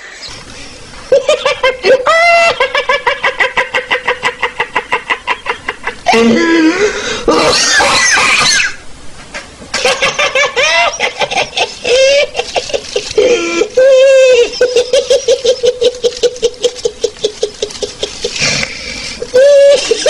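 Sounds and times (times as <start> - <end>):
high-pitched laughter: 1.1 - 8.8, 9.7 - 20.0.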